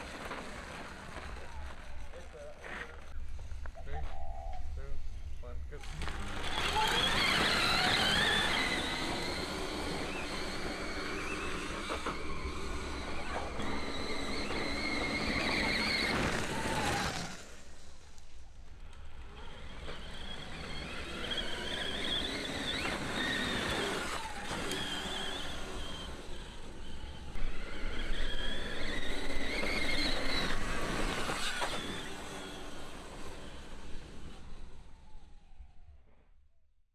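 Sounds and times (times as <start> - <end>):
electric motor whine: 0.0 - 36.0.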